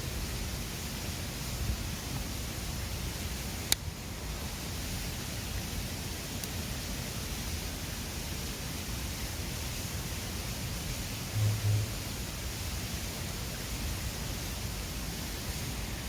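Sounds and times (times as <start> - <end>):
mountain river rushing: 2.2 - 16.0.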